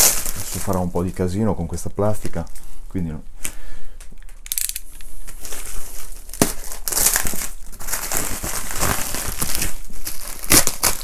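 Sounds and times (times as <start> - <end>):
plastic wrap crinkling: 0.0 - 2.7, 4.2 - 11.0.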